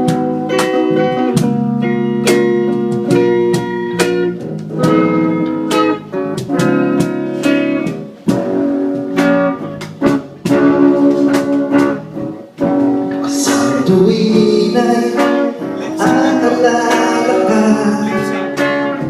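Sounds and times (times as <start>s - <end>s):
live band playing slow song: 0.0s - 19.0s.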